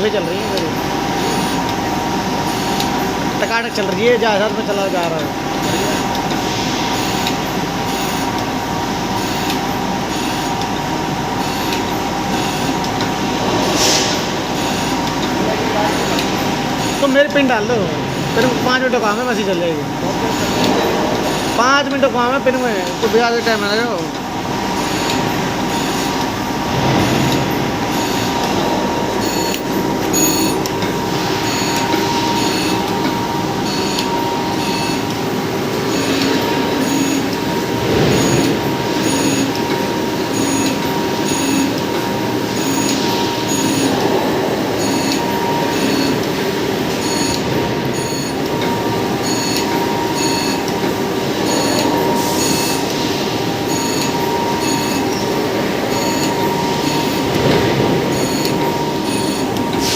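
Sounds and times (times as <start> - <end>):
grinder machine whining: 0.0 - 59.9.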